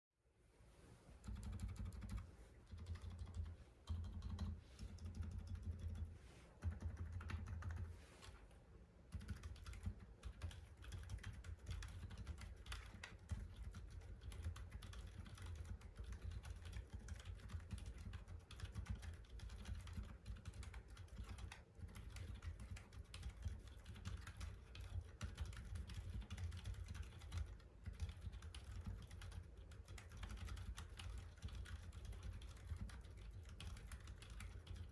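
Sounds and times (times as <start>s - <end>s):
typing on mechanical keyboard: 1.2s - 8.4s, 9.1s - 34.9s.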